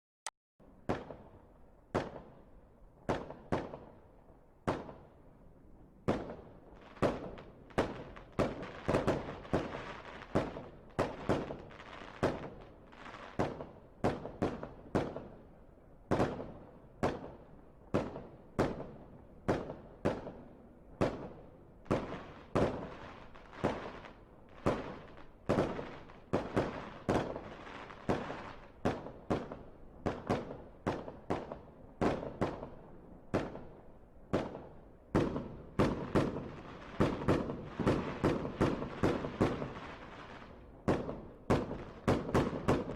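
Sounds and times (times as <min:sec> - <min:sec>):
fireworks bangs with crackling: 0:06.1 - 0:15.4, 0:16.1 - 0:20.4, 0:21.0 - 0:33.7, 0:34.3 - 0:42.9.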